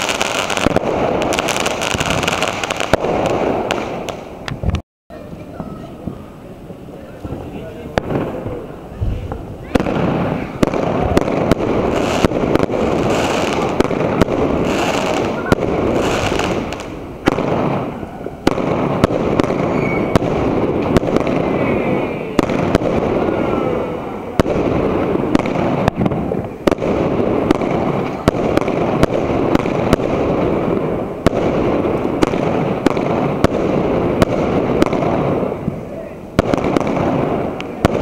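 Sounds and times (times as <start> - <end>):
firework bangs: 0.0 - 38.0
firework crackle: 0.0 - 38.0.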